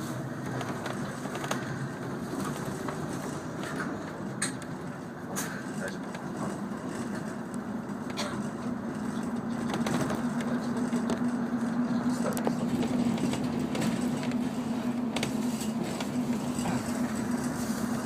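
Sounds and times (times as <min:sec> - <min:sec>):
bus engine drone: 0:00.0 - 0:18.0
road noise: 0:00.0 - 0:18.0.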